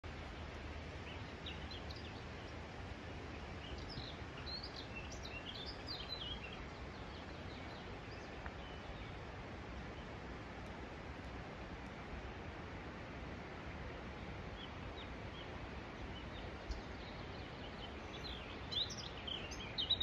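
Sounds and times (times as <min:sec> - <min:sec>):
steady outdoor hiss: 0:00.0 - 0:20.0
small birds chirping: 0:00.1 - 0:10.6, 0:14.1 - 0:20.0.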